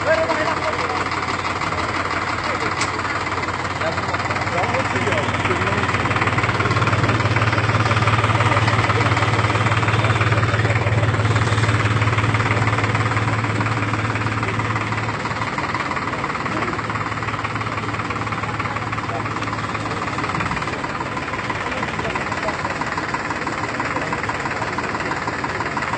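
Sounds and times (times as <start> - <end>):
tractor engine running: 0.0 - 25.9.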